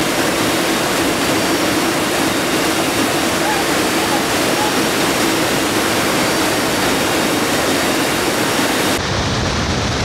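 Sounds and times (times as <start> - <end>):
low wind rumble: 0.0 - 10.0
plane engines roaring: 0.0 - 10.0
rushing air: 0.0 - 10.0.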